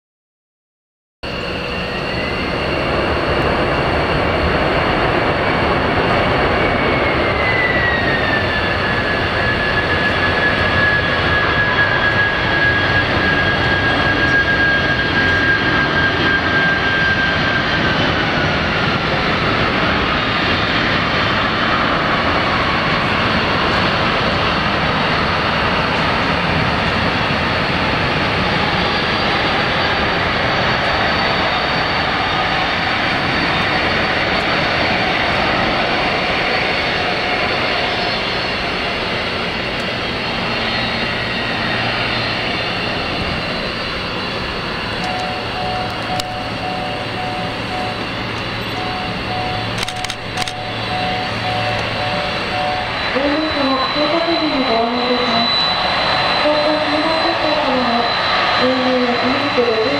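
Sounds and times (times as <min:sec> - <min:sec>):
jet engine whine spooling down: 0:01.2 - 0:59.9
jet engines rushing: 0:01.3 - 0:59.9.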